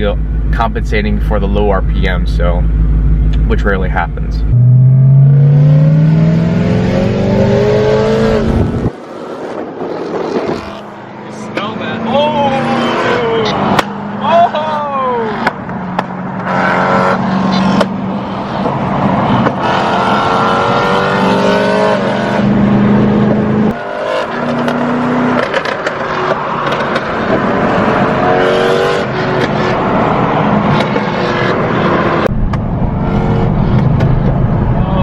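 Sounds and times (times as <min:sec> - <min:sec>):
car engine accelerating: 0:01.3 - 0:35.0.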